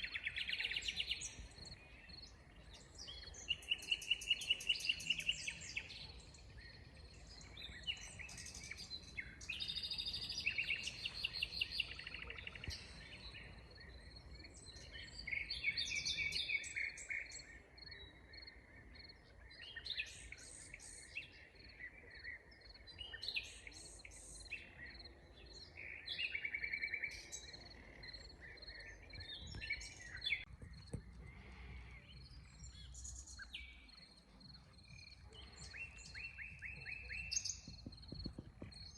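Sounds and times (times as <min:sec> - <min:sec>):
forest birds singing: 0:00.0 - 0:38.9.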